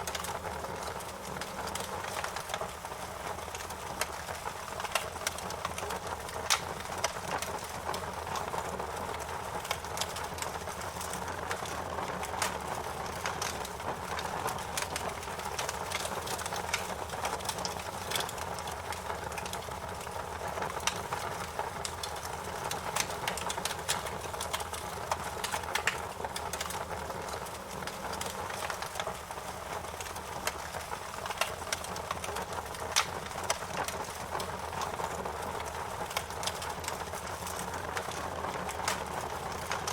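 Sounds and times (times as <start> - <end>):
fire crackling and popping: 0.0 - 39.9
wood fire flames rushing: 0.0 - 39.9.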